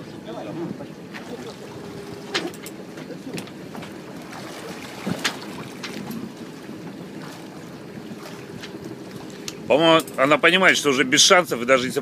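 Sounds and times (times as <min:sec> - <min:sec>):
water sloshing against hull: 0:00.0 - 0:12.0.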